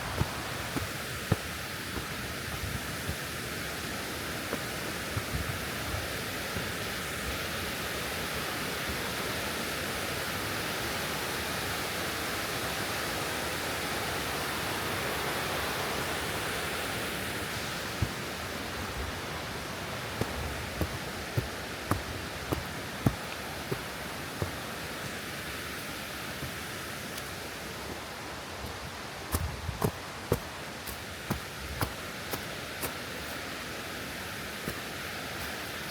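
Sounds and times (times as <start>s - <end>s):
footsteps on trail: 0.0s - 9.8s, 16.2s - 35.9s
waterfall and stream rushing: 0.0s - 35.9s.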